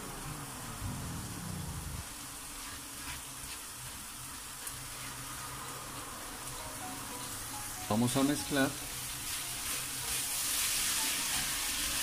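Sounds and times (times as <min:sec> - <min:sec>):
chicken sizzling in frying pan: 0:02.0 - 0:12.0.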